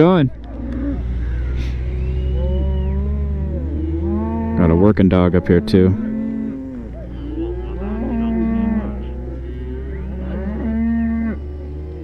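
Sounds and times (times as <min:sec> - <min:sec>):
low rumble: 0:00.0 - 0:12.0
cattle mooing: 0:00.5 - 0:12.0.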